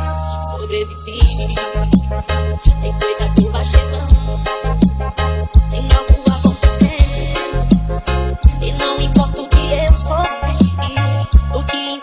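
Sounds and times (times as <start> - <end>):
instrumental reggae music: 0.0 - 12.0.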